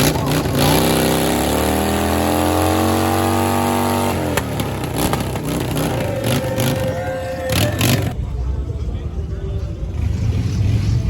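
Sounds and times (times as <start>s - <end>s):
car engine revving: 0.0s - 8.2s, 9.6s - 11.0s.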